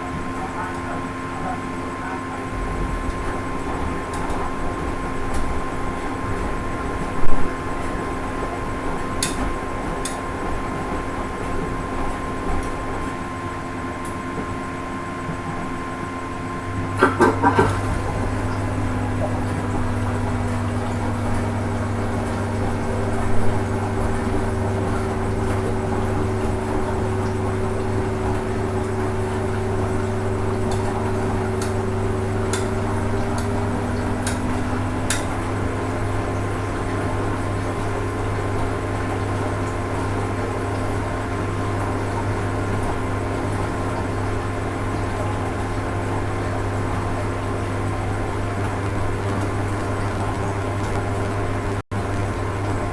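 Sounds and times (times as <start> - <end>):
washing machine motor hum: 0.0 - 52.9.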